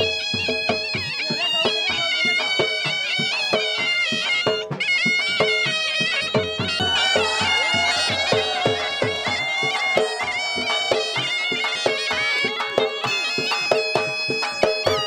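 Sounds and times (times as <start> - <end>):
reed pipe melody: 0.0 - 15.0
steady drum beat: 0.0 - 15.0.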